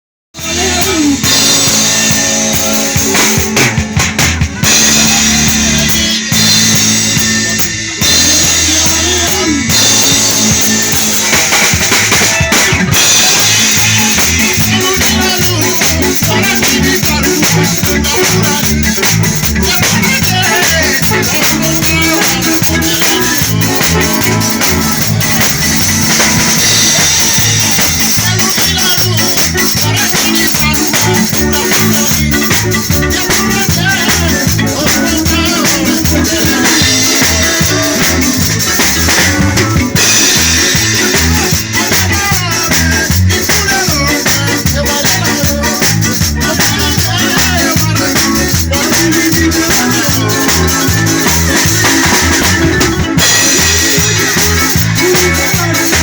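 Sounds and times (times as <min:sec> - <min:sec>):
bass line: 0:00.3 - 0:56.0
drums playing steady beat: 0:00.3 - 0:56.0.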